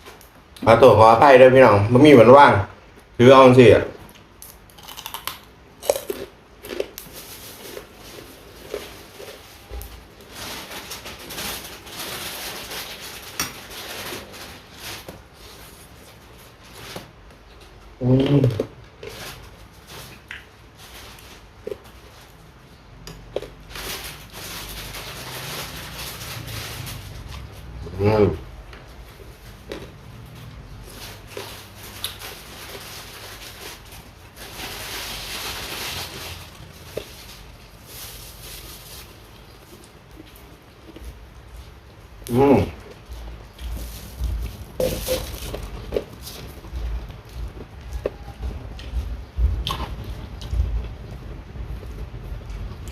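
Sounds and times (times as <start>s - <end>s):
crunching and chewing: 4.0s - 27.8s, 28.6s - 52.9s.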